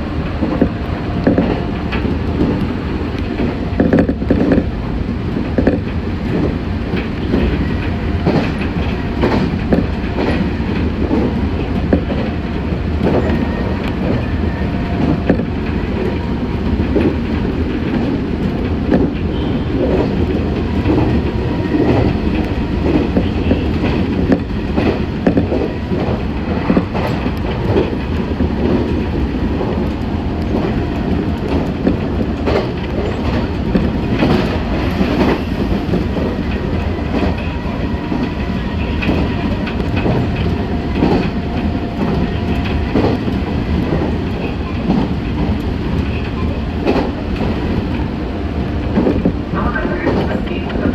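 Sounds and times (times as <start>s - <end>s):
train rumbling: 0.0s - 50.9s.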